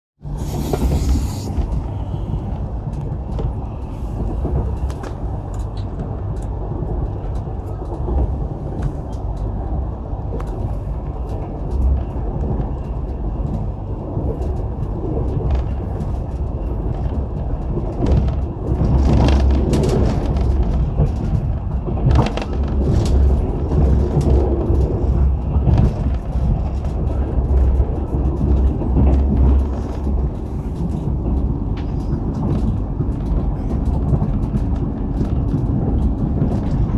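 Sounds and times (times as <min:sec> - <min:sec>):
vehicle interior rumble: 0:00.2 - 0:36.9
small clicks and rattles: 0:01.6 - 0:36.9.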